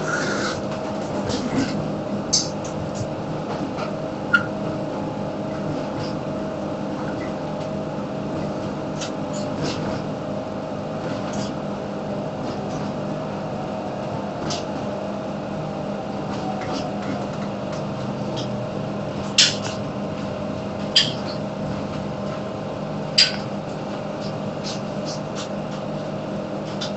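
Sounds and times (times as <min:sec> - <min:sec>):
train hum: 0:00.0 - 0:26.9.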